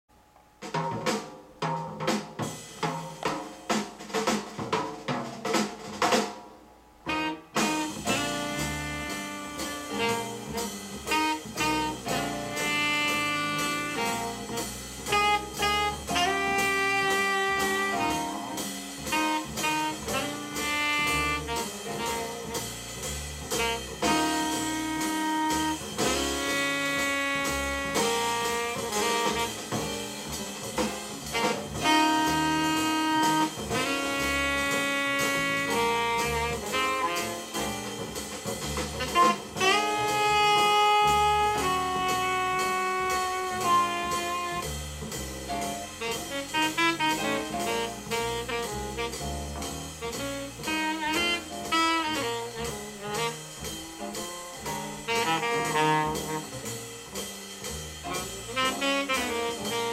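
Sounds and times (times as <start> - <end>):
rhythm section with drums: 0.5 - 59.9
jazz alto saxophone: 7.0 - 59.9.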